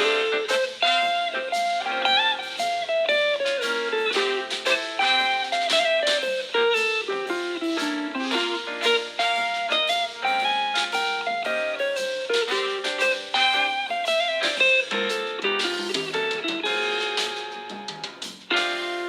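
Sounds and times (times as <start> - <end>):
bluesy guitar ringtone: 0.0 - 19.0.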